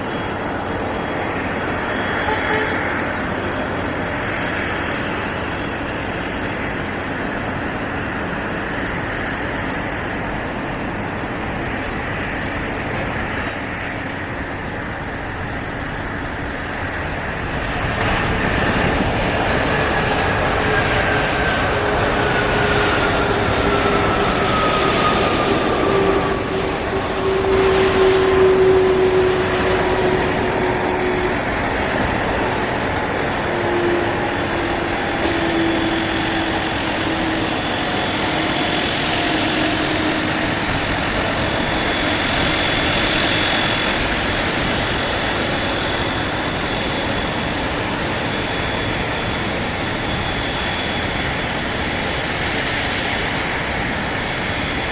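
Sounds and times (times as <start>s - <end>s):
jet engine whine: 0.0s - 54.9s
jet engines rushing: 0.0s - 54.9s.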